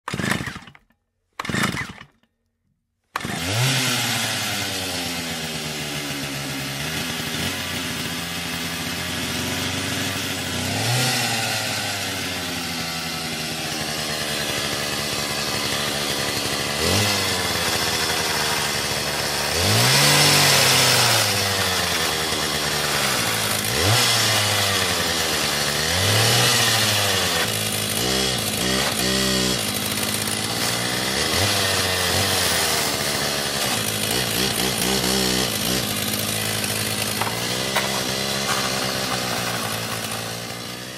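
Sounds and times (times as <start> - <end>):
chainsaw engine revving: 0.1 - 2.3, 3.1 - 40.9.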